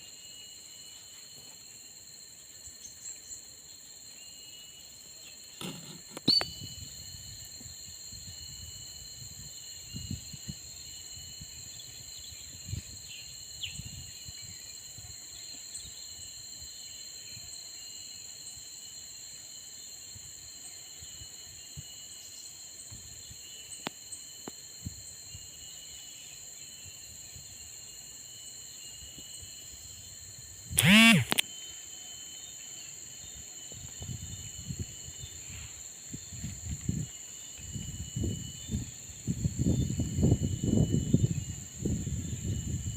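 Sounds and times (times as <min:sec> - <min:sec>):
high-pitched insect drone: 0:00.0 - 0:42.9.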